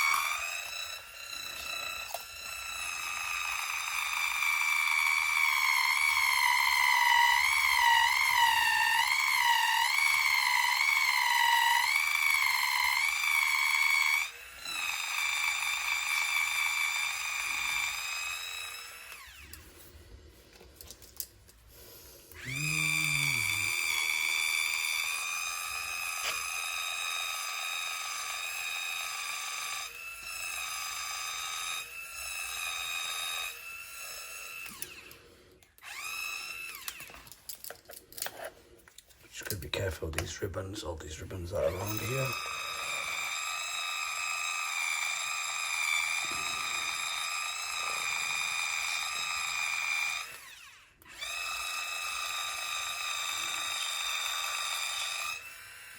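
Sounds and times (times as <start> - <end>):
electric tool motor whining: 0.0 - 55.9.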